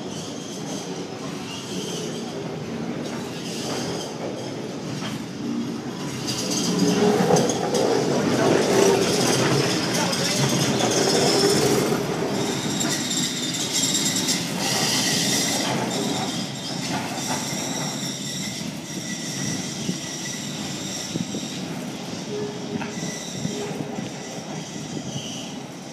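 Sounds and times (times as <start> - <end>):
steel wheels rolling and squealing: 0.0 - 25.9.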